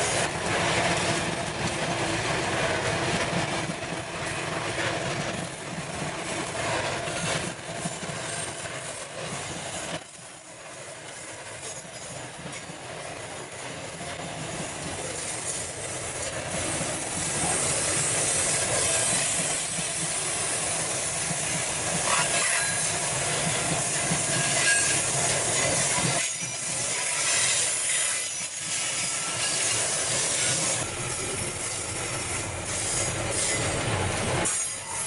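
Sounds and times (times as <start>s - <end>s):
freight train wheels on rails: 0.0s - 35.0s.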